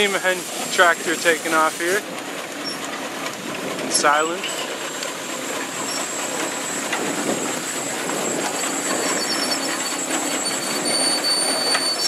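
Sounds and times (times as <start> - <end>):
steam traction engine clatter: 0.0 - 12.0.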